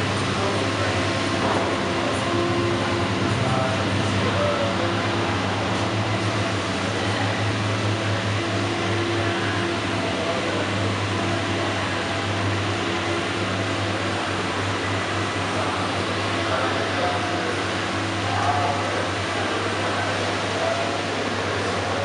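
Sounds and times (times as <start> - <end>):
mechanical hum with hiss: 0.0 - 22.0.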